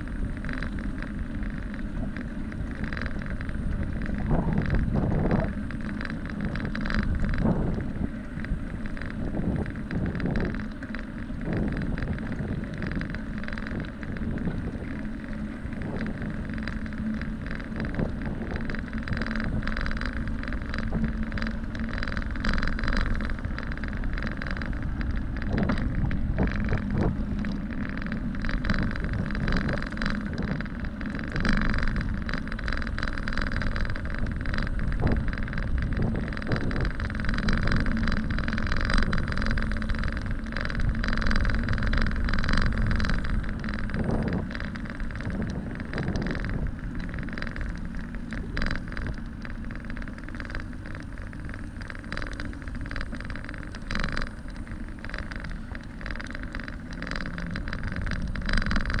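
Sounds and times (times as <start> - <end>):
bicycle rattling over bumps: 0.0 - 59.0
bicycle tyre and wind noise: 0.0 - 59.0
low rumble on microphone: 0.0 - 59.0.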